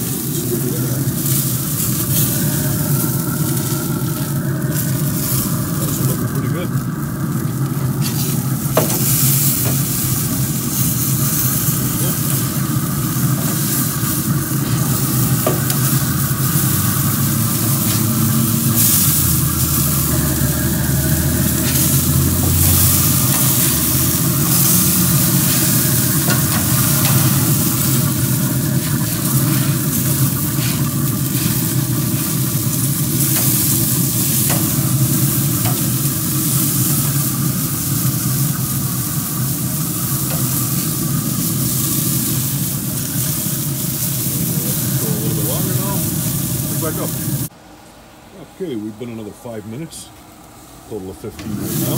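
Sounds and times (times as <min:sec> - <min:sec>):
burger patties sizzling on grill: 0:00.0 - 0:47.5, 0:51.3 - 0:51.9
steady low hum: 0:00.0 - 0:51.9.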